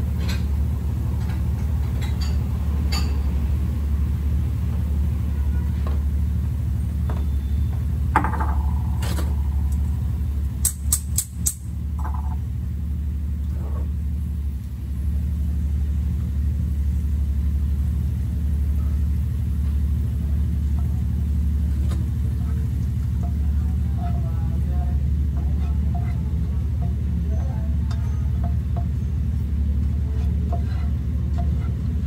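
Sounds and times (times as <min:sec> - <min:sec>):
low rumble: 0:06.2 - 0:32.0.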